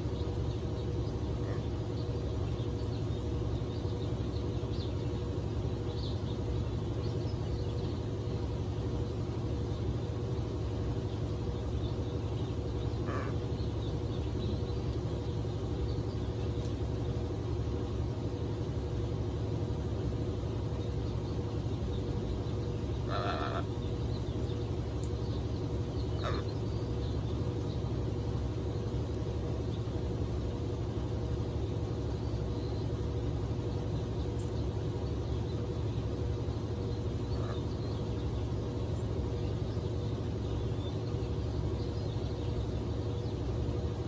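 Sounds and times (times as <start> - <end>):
faint bird chirps: 0.0 - 17.5, 20.2 - 30.7, 31.5 - 44.0
steady low hum: 0.0 - 44.0.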